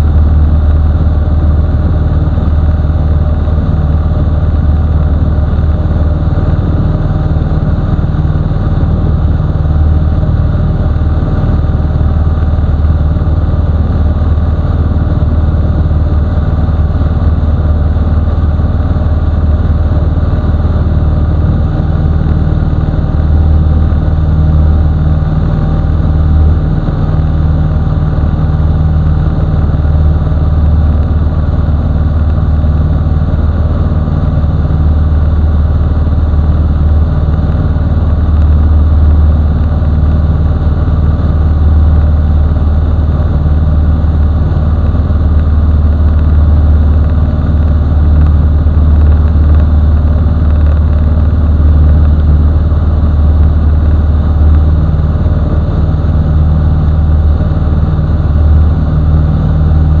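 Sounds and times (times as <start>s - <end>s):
light aircraft engine drone: 0.0s - 60.0s.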